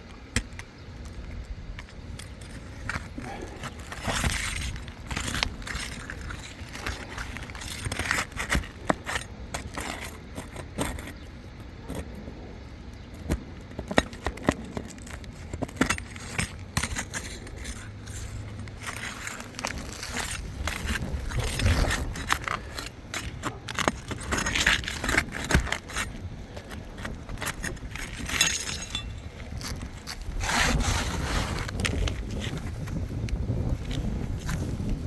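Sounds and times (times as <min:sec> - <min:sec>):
sharp clicks and cracking: 0:00.0 - 0:12.3, 0:12.9 - 0:35.0
roof shingle scraping: 0:00.4 - 0:35.0.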